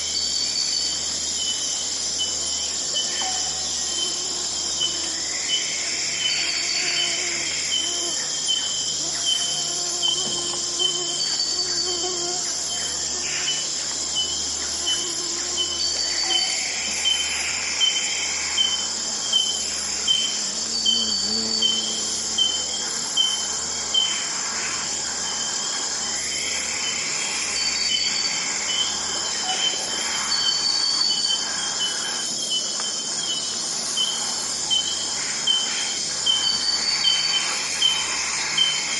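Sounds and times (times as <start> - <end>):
high-pitched insect chorus: 0.0 - 38.9
longer insect calls: 0.0 - 38.9.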